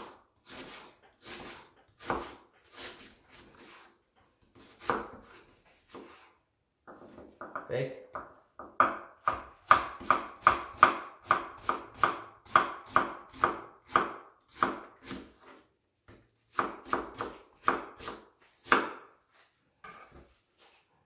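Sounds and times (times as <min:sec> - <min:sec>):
knife chopping on wooden board: 0:00.0 - 0:19.2.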